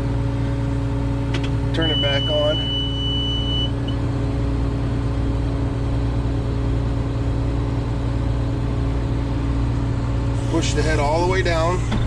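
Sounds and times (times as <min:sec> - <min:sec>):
combine engine humming: 0:00.0 - 0:12.0.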